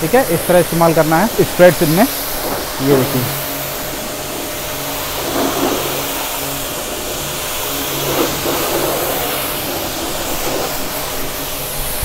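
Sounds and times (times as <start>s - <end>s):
pressure washer motor humming: 0.0s - 12.0s
water spray hissing and splashing: 0.0s - 12.0s.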